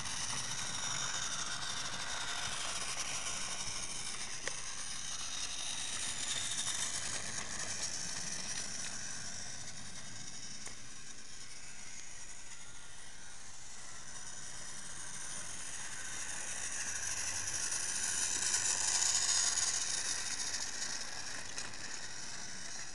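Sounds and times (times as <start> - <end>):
toy train motor whirring: 0.0 - 22.9
toy train wheels rolling: 0.0 - 22.9.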